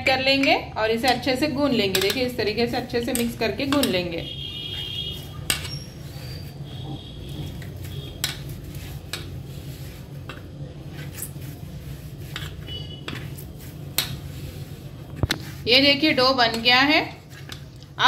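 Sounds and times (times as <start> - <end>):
hands kneading dough: 0.0 - 18.0.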